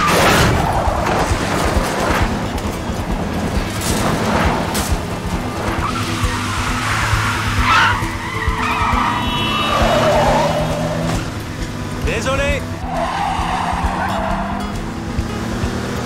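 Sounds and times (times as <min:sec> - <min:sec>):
car engines running hard: 0:00.0 - 0:16.0
film soundtrack music: 0:00.0 - 0:16.0
tyres squealing and skidding: 0:00.0 - 0:16.0.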